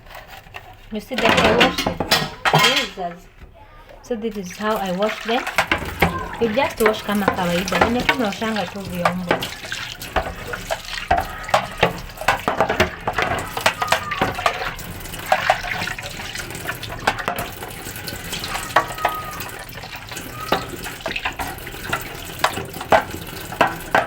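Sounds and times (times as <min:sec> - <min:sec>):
plastic parts clattering against sink: 0:00.0 - 0:24.0
scrubbing plastic shelves: 0:00.0 - 0:24.0
tap water running and splashing: 0:00.0 - 0:24.0.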